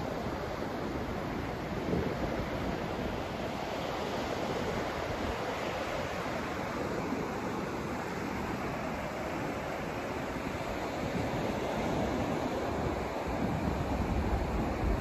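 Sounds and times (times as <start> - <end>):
steady white noise hiss: 0.0 - 15.0.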